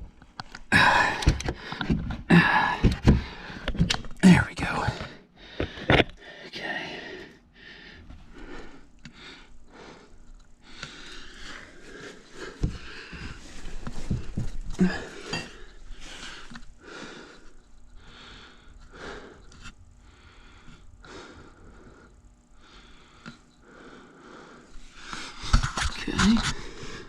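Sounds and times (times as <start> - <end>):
man breathing hard: 0.7 - 3.9, 4.7 - 25.8, 26.4 - 27.0.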